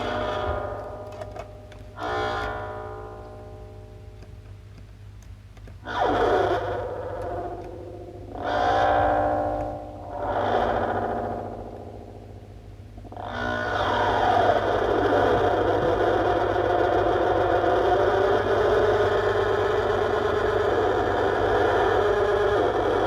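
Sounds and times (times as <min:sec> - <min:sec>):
grinding noise from effects pedals: 0:00.0 - 0:23.0
low amp hum: 0:00.0 - 0:23.0.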